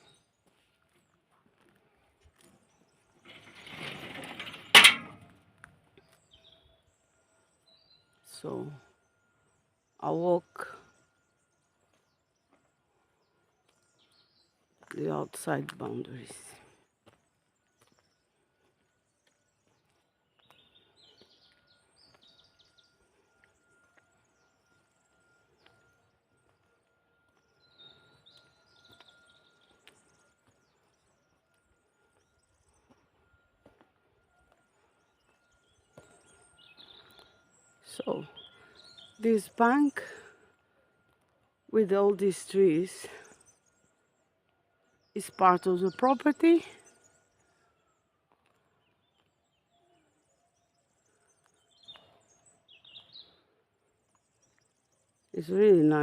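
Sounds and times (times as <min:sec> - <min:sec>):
distant birds twittering: 0:02.4 - 0:56.0.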